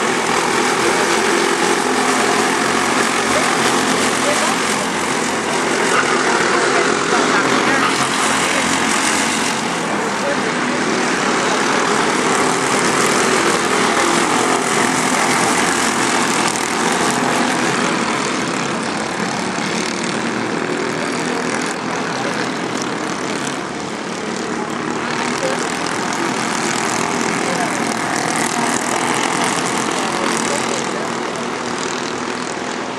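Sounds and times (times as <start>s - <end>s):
rushing noise: 0.0s - 32.8s
kart engine running hard: 0.0s - 32.9s.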